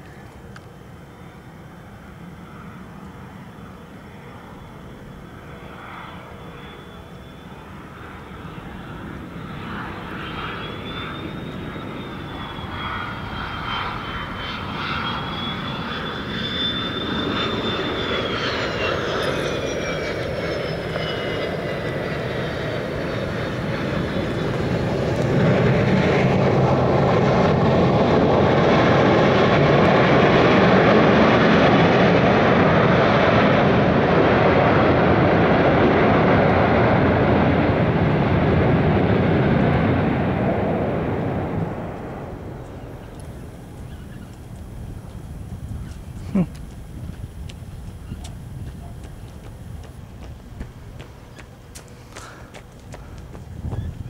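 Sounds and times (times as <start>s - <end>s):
jet engine whine: 0.0s - 54.0s
jet reverse thrust roar: 1.0s - 54.0s.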